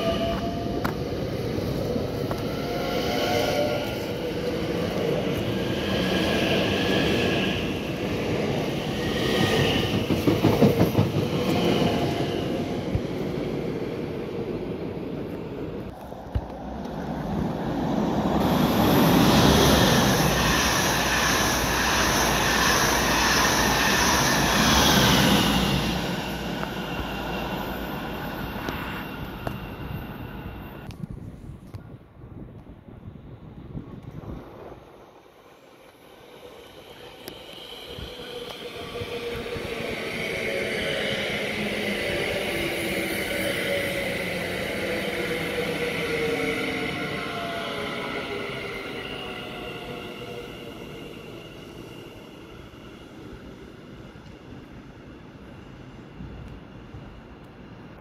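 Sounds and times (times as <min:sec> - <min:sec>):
passenger train passing: 0:00.0 - 0:58.0.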